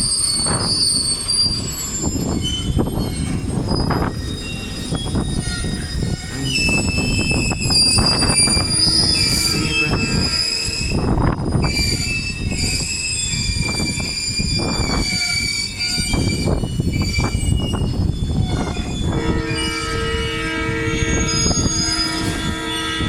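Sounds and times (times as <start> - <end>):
train rumbling: 0.0 - 23.0
train wheels squealing: 0.0 - 23.0.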